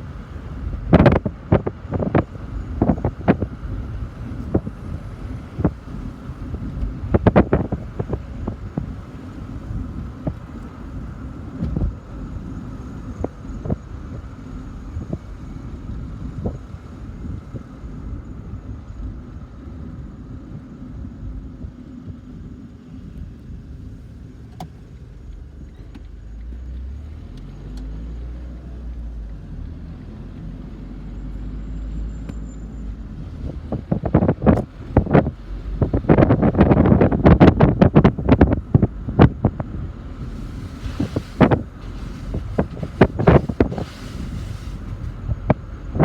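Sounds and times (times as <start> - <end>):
wind buffeting microphone: 0.0 - 24.0, 32.9 - 46.0
vehicle rumble: 0.0 - 46.0.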